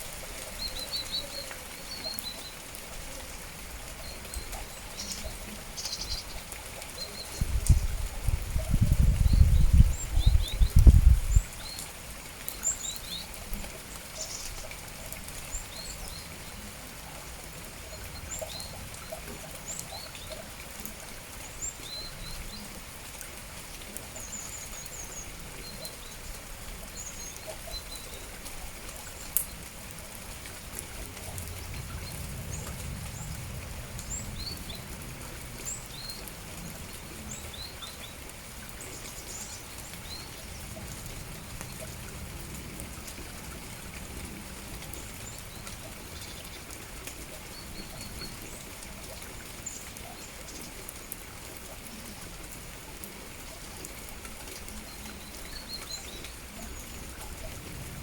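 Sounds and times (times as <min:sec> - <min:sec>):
songbirds chirping: 0:00.0 - 0:57.9
light rain hissing: 0:00.0 - 0:58.0.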